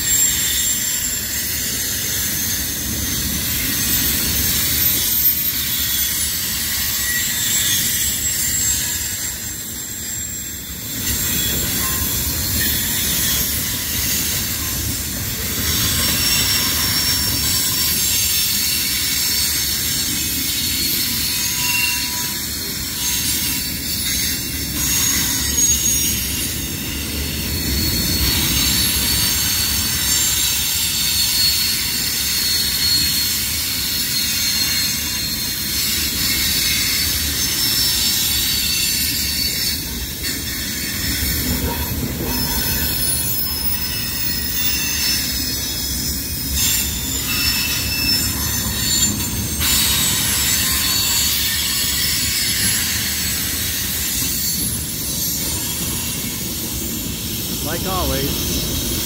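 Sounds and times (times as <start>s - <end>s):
train cars rumbling and rattling: 0.0s - 59.0s
train wheels squealing: 0.0s - 59.0s.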